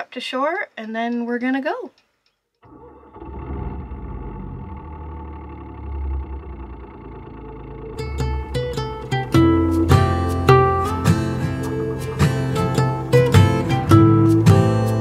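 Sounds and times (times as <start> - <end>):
boat engine idling: 2.7 - 14.7.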